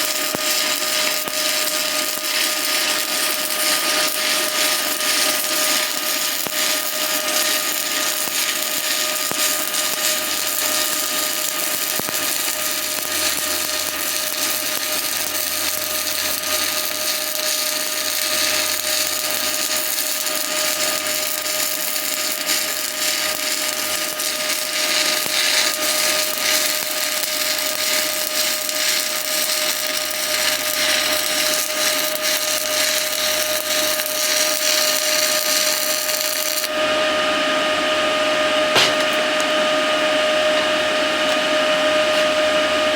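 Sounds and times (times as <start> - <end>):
welding arc crackling hiss: 0.0 - 36.8, 38.7 - 39.5.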